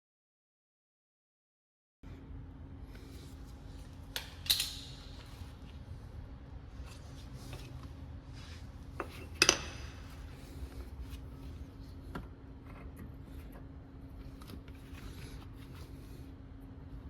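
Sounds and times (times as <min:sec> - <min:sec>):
steady low hum: 0:02.0 - 0:17.0.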